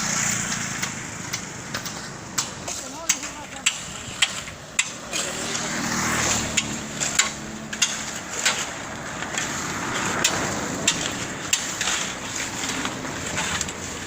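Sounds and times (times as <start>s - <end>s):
concrete mixer machine noise: 0.0s - 14.0s.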